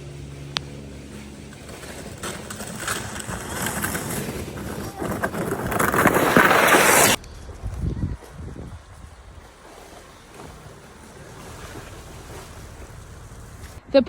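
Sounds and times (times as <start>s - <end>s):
sled sliding over crunchy snow: 0.0s - 13.8s.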